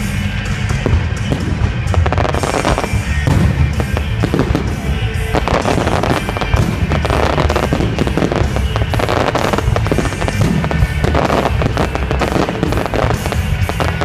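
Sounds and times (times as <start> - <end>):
fireworks bangs and crackles: 0.0 - 14.0
loud background music: 0.0 - 14.0.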